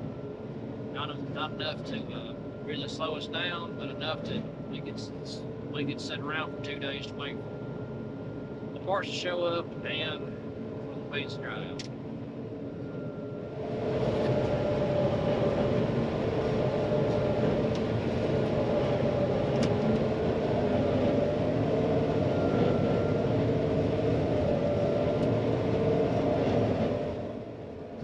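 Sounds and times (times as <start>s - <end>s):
diesel engine hum: 0.0s - 28.0s.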